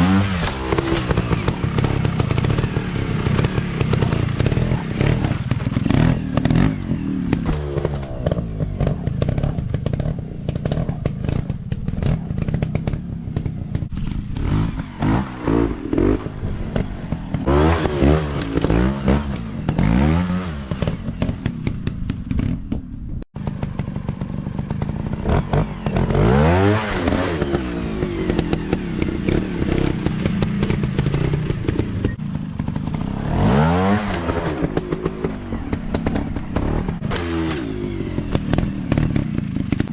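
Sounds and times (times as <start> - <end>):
dirt bike engines revving: 0.0 - 22.4, 23.4 - 39.9.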